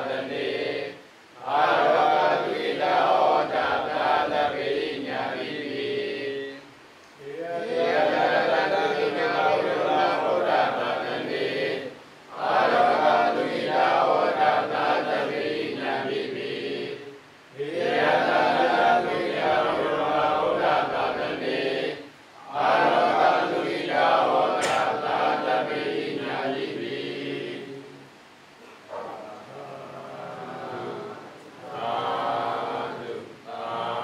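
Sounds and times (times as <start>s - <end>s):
monks chanting in unison: 0.0s - 28.1s, 28.9s - 34.0s.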